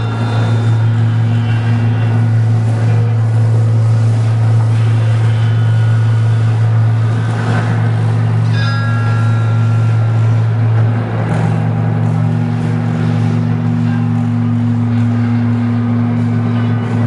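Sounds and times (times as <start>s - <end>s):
low electric guitar drone: 0.0s - 17.0s.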